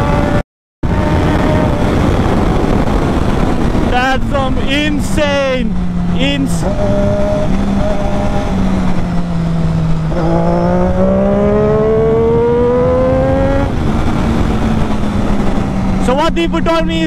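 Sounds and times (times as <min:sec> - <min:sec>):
rushing air noise: 0:00.0 - 0:16.1
motorcycle engine accelerating: 0:00.0 - 0:17.0.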